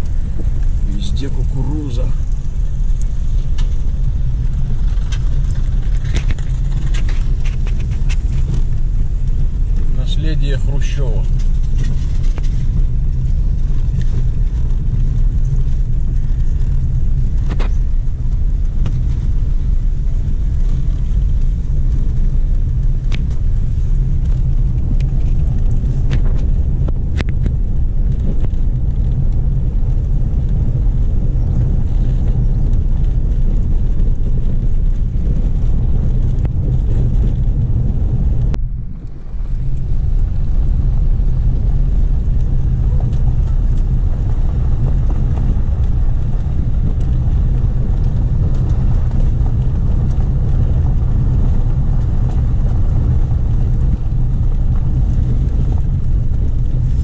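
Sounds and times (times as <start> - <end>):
car driving on road rumble: 0.0 - 57.0.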